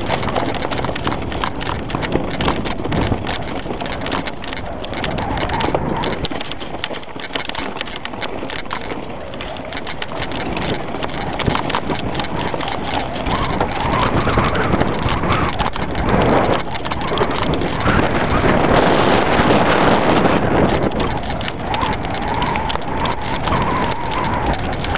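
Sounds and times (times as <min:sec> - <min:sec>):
bike rattling and knocking: 0:00.0 - 0:24.9
tyres crunching over gravel: 0:00.0 - 0:24.9
wind buffeting microphone: 0:00.0 - 0:24.9.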